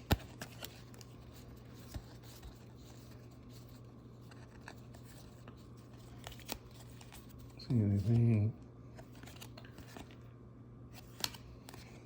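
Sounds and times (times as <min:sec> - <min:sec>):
card packaging clicks and rustles: 0:00.0 - 0:10.3, 0:10.9 - 0:12.0
low steady hum: 0:00.0 - 0:12.0.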